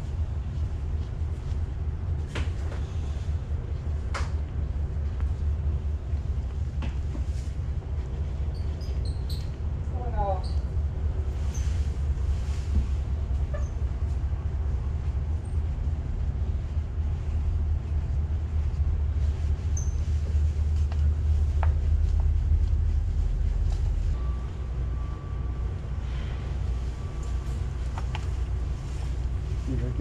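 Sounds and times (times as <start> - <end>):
low rumble: 0.0 - 30.0.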